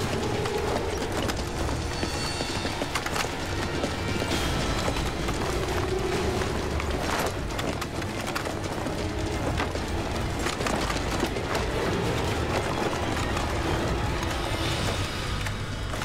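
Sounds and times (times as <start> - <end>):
low rumbling music: 0.0 - 16.0.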